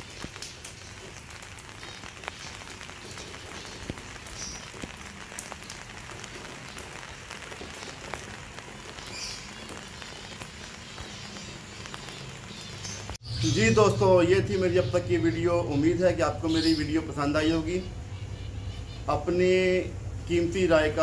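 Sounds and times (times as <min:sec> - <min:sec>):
raindrops ticking on surfaces: 0:00.0 - 0:21.0
steady rain: 0:00.0 - 0:21.0.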